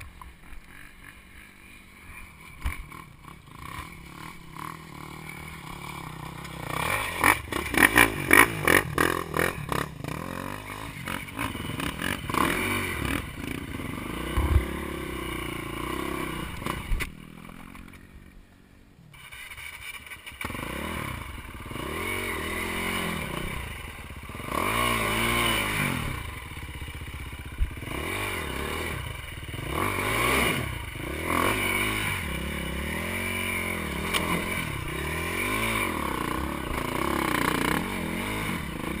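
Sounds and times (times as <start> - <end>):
dirt bike engine revving: 0.0 - 18.4, 19.1 - 39.0.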